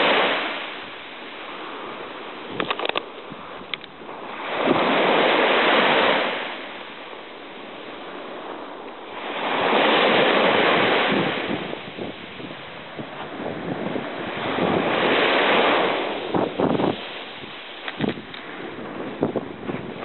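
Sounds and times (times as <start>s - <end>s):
waves washing up beach: 0.0s - 20.0s.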